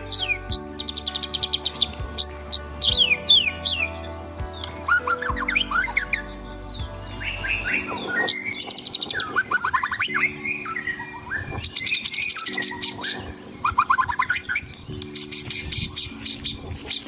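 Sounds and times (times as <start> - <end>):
bird singing whistles and trills: 0.1 - 17.0.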